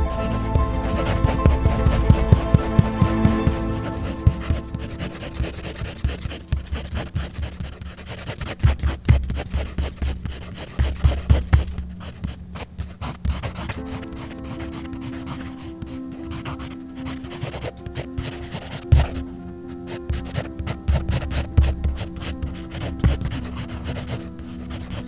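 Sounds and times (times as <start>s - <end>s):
soft background music: 0.0s - 25.0s
pencil scratching on paper: 0.1s - 19.3s, 19.9s - 25.0s.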